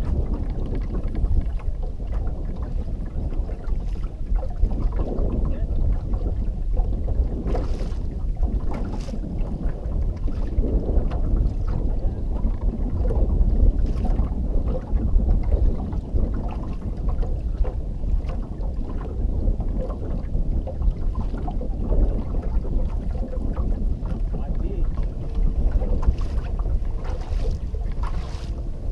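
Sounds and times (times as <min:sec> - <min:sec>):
water lapping against hull: 0:00.0 - 0:28.9
wind buffeting microphone: 0:00.0 - 0:28.9.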